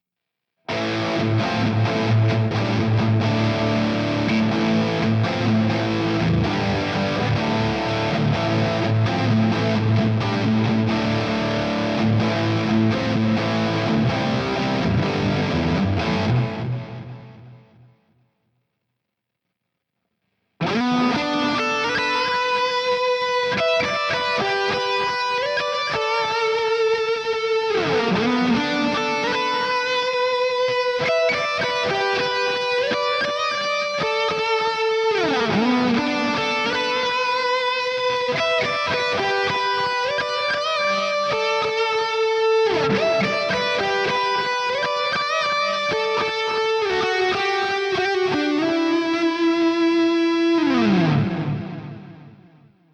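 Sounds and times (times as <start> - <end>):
electric guitar melody: 0.7 - 18.2, 20.6 - 52.9.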